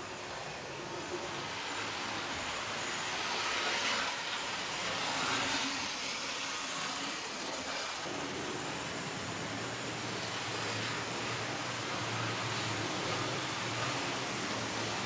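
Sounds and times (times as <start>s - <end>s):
model train motors whirring: 0.0s - 15.0s.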